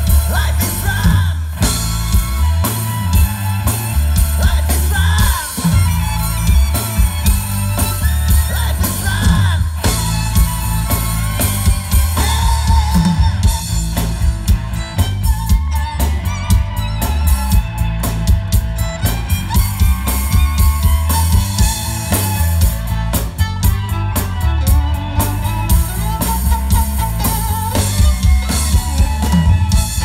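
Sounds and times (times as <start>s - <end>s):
rock band playing: 0.0s - 30.0s
steady drum beat: 0.0s - 30.0s
violins playing melody: 1.7s - 30.0s.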